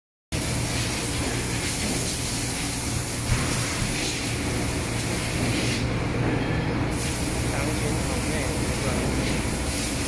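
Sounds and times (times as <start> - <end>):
spray paint hiss: 0.4 - 5.9, 6.9 - 10.0
steady low hum: 0.4 - 10.0.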